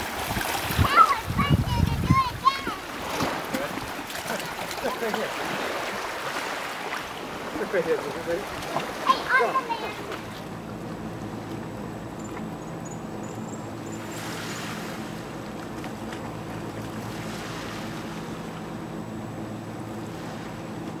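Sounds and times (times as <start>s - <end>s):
sea water washing: 0.0s - 21.0s
low motor drone: 2.7s - 21.0s.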